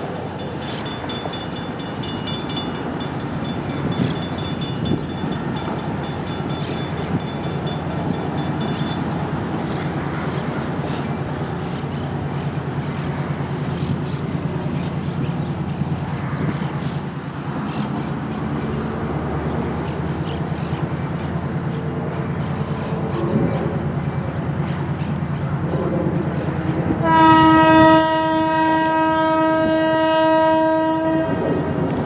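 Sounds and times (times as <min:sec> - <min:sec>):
diesel locomotive engine hum: 0:00.0 - 0:32.0.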